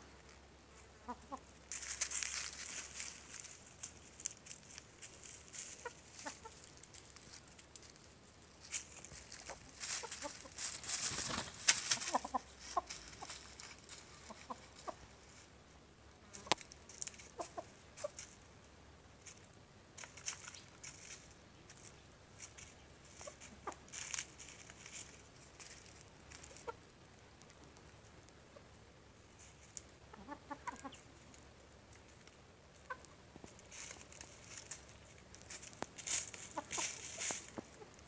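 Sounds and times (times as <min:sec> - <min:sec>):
rustling in dry leaves: 0:00.1 - 0:15.6, 0:16.2 - 0:28.3, 0:29.1 - 0:38.0
chickens clucking: 0:00.8 - 0:15.6, 0:16.2 - 0:18.5, 0:19.2 - 0:38.0.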